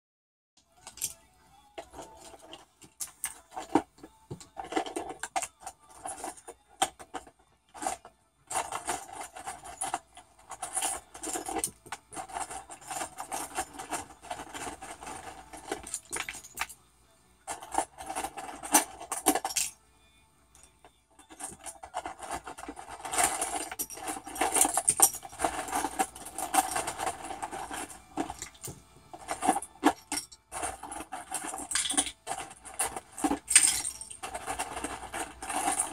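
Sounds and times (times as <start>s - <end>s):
cockatoo rattling small hard objects: 0.8s - 16.8s, 17.5s - 19.8s, 20.6s - 35.9s.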